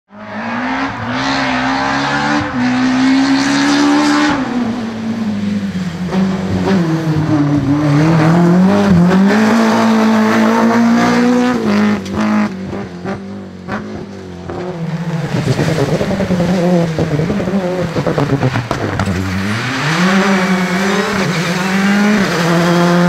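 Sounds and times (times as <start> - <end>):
car engine at high revs: 0.1 - 23.0.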